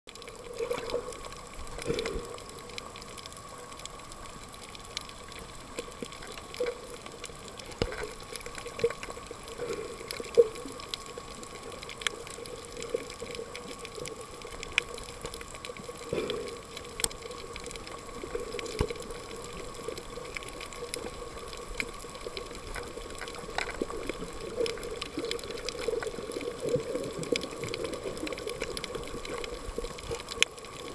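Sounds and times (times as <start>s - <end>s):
sharp clicks and crackles: 0.1s - 30.9s
underwater steady hum: 0.1s - 30.9s.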